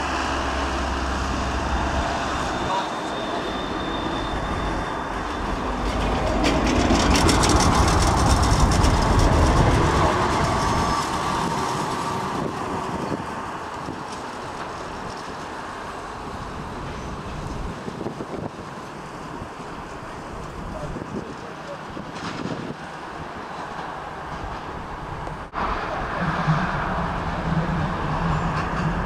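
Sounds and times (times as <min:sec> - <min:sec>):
tram running noise: 0:00.0 - 0:29.0.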